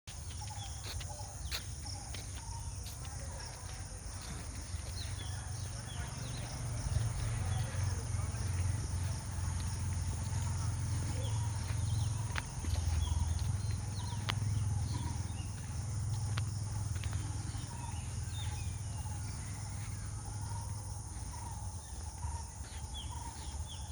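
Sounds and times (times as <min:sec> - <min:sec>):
insects buzzing: 0:00.1 - 0:23.9.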